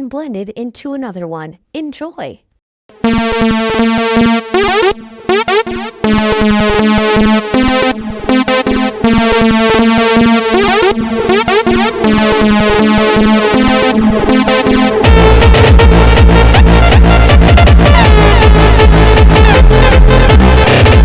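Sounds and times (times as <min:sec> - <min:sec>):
electronic synthesizer music: 0:02.9 - 0:21.0.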